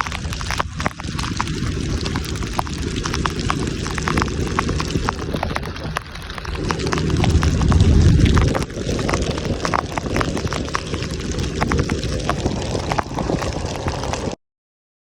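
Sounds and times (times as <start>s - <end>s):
sharp crackles: 0.0s - 14.4s
wind buffeting microphone: 0.0s - 14.4s.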